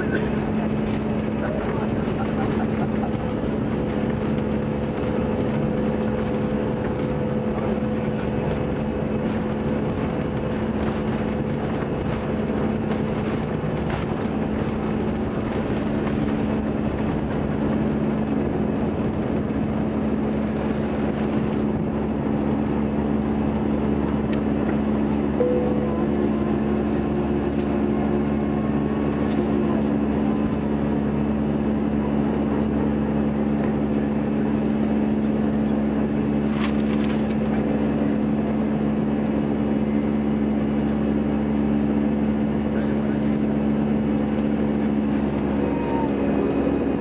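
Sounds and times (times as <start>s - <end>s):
jet engines at takeoff thrust: 0.0s - 47.0s
wheels rumbling on runway: 0.0s - 47.0s.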